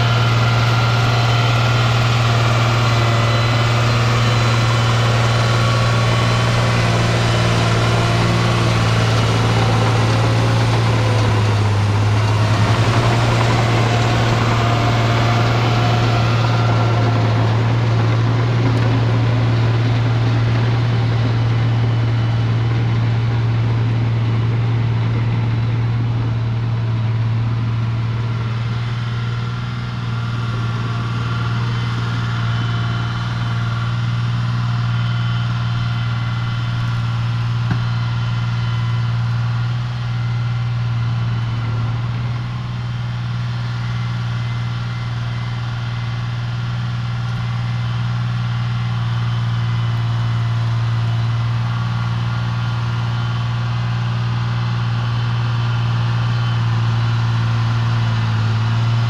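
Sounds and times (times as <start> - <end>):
dozer diesel engine running: 0.0 - 59.0.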